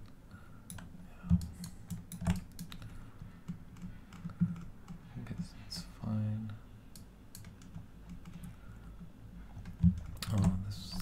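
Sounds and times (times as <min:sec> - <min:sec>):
keyboard and mouse clicks: 0:00.6 - 0:05.9, 0:06.9 - 0:11.0.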